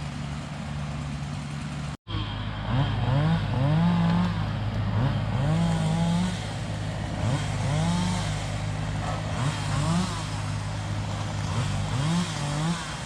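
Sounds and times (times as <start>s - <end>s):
steady running hum: 0.0s - 13.0s
motor revving: 1.0s - 13.0s.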